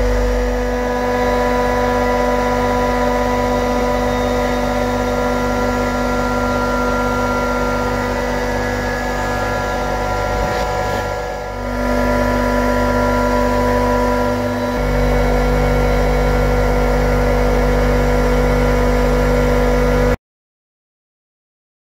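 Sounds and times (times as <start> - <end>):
compressor humming with whining tones: 0.0 - 20.2.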